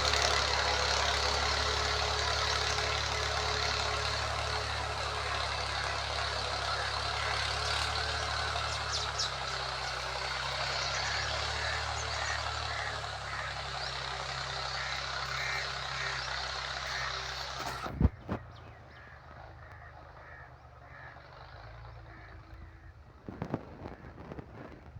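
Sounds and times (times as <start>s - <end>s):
tractor engine rumbling: 0.0s - 24.9s.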